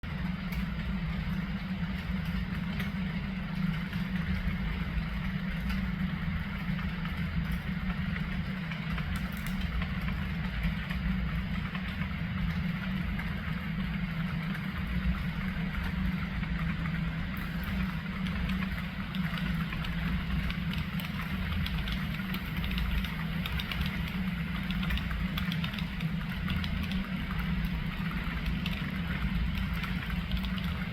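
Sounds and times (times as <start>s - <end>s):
low mechanical hum with rumble: 0.0s - 30.9s.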